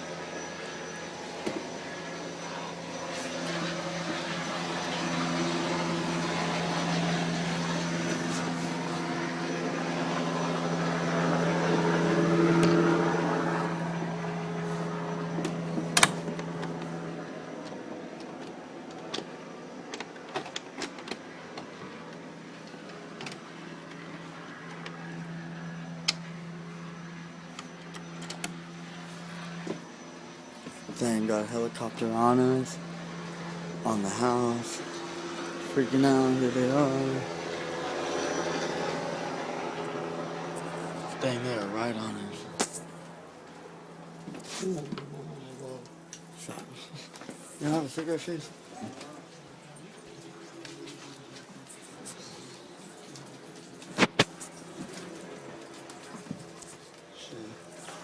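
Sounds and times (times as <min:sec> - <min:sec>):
helicopter drone overhead: 0:00.0 - 0:58.0.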